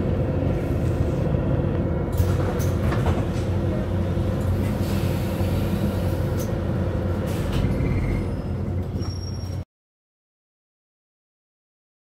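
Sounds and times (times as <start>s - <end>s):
bus engine rumble: 0.0s - 9.7s.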